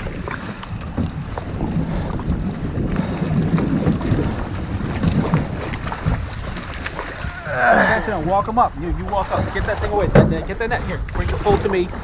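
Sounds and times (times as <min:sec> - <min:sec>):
water slapping a boat: 0:00.0 - 0:12.0
wind buffeting microphone: 0:00.0 - 0:12.0.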